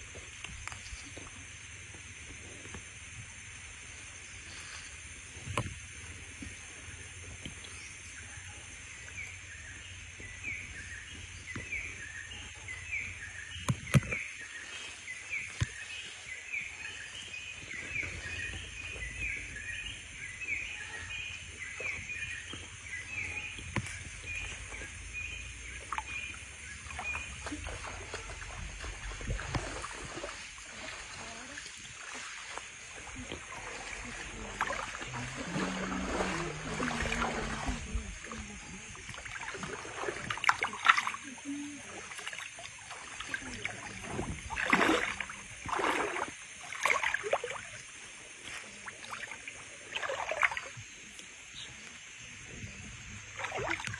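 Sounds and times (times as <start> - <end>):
water sloshing around wading feet: 0.0 - 53.9.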